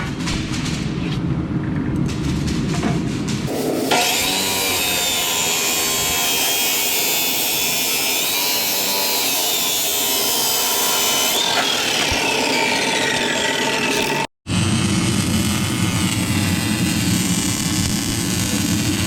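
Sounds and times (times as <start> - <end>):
power tool whining on steel: 3.5 - 19.0.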